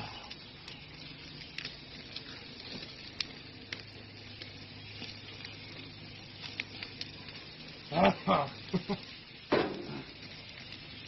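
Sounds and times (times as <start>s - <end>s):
meat sizzling on grill: 0.0s - 11.0s
sharp crackles: 0.0s - 11.0s.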